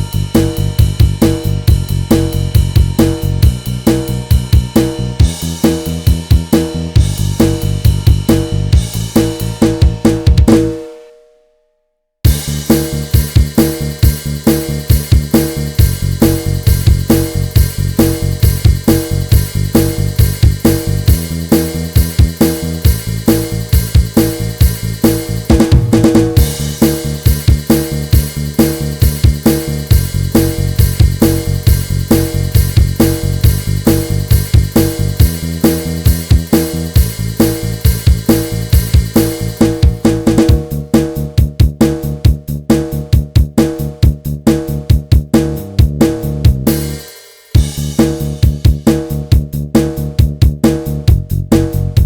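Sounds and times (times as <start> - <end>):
bass line: 0.0 - 10.9, 12.3 - 52.0
drum kit playing a beat: 0.0 - 11.1, 12.3 - 52.0.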